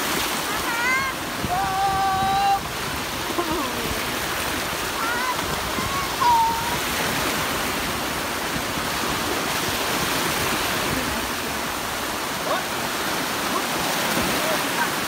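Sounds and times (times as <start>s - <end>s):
small waves breaking: 0.0s - 15.0s.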